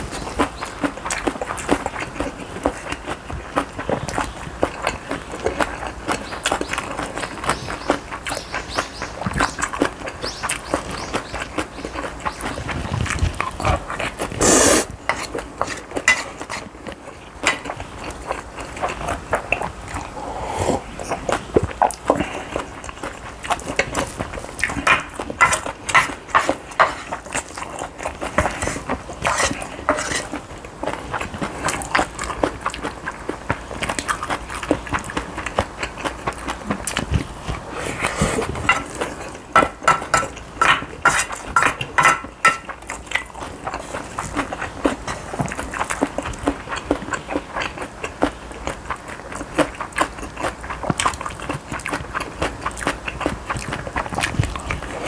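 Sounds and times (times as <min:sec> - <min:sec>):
chewing with wet smacks: 0:00.0 - 0:55.0.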